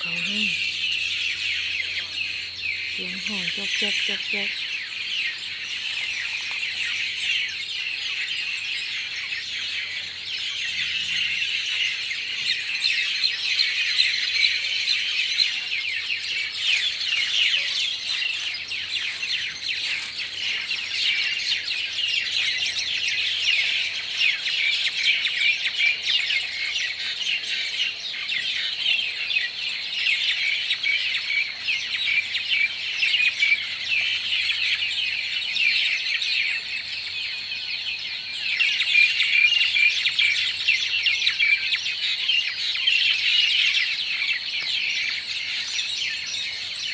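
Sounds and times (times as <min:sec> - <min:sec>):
flock of birds chirping and squawking: 0:00.0 - 0:46.9.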